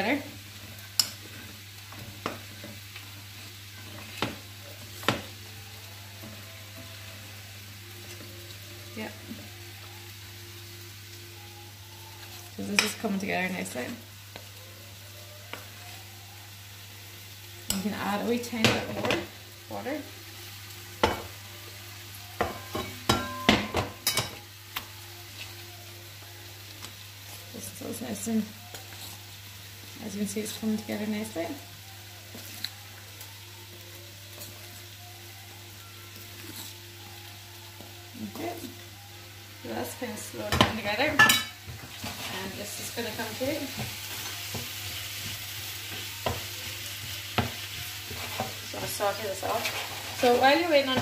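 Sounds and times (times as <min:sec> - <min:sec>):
vegetables sizzling in a pan: 0:00.0 - 0:51.0.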